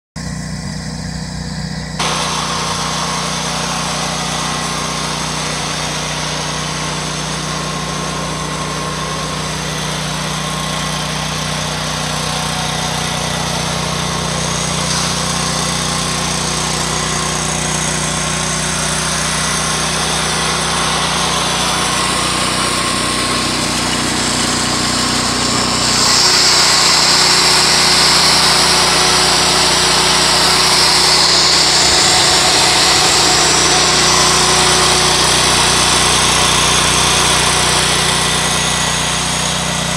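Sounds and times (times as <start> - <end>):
garden tractor engine running: 0.2 - 39.9.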